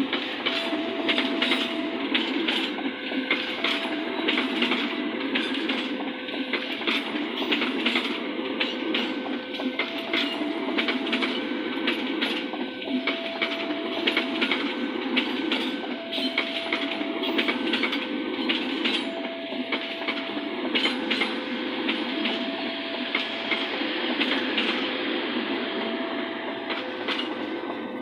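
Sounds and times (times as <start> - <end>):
train wheels clacking over rail joints: 0.0 - 28.0.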